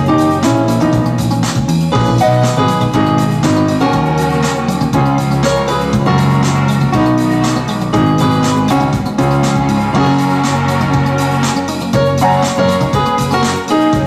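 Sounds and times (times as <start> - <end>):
electronic keyboard funk music: 0.0 - 14.0.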